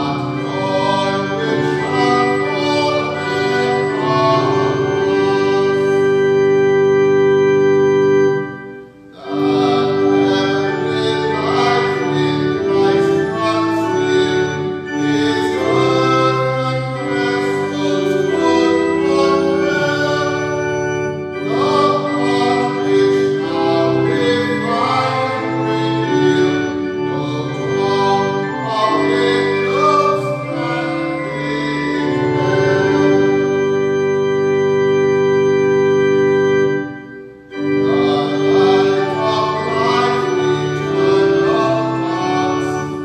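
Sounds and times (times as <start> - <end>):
voices singing a hymn: 0.0 - 8.4, 9.1 - 36.8, 37.5 - 43.0
sustained organ chords: 0.0 - 43.0.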